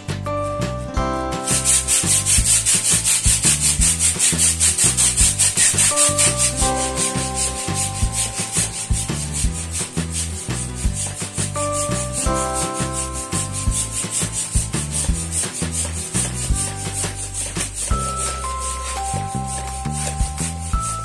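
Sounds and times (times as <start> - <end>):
hissing air pump strokes: 1.4 - 21.0.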